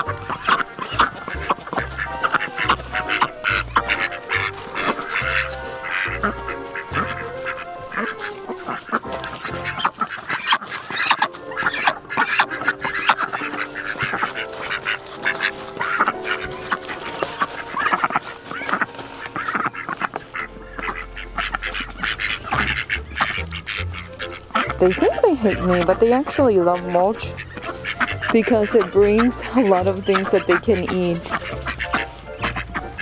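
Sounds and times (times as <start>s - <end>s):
background music with held notes: 0.0s - 33.0s
ducks quacking: 0.0s - 33.0s.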